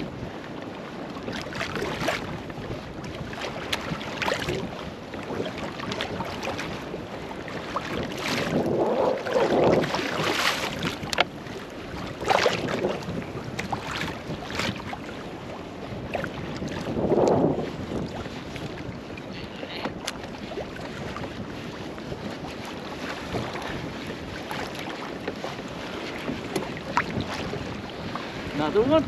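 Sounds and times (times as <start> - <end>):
water splashing against boat hull: 0.0 - 29.0
wind buffeting microphone: 0.0 - 29.0.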